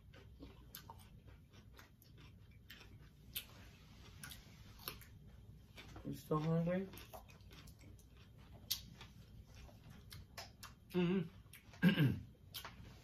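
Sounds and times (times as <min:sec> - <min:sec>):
people eating at a table: 0:00.0 - 0:13.0.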